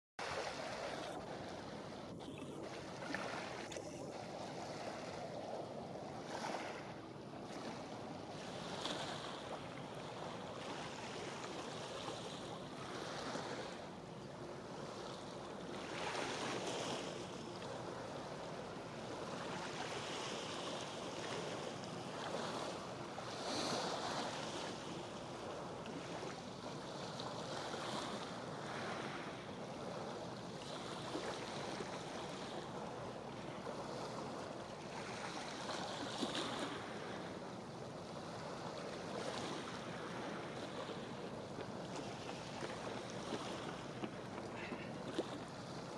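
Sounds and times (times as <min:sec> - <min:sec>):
sea waves washing in: 0:00.2 - 0:45.9
wind: 0:00.2 - 0:45.9.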